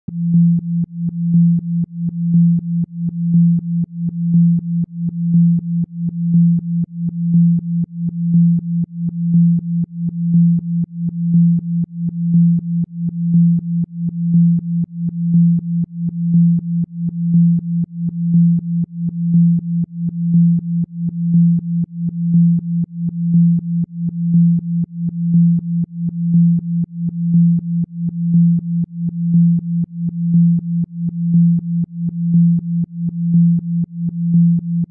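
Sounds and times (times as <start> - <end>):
pulsing low electronic tone: 0.1 - 34.9.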